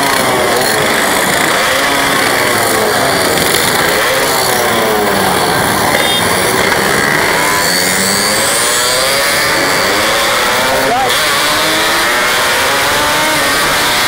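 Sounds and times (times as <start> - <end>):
motorcycle engines revving past: 0.0 - 14.0.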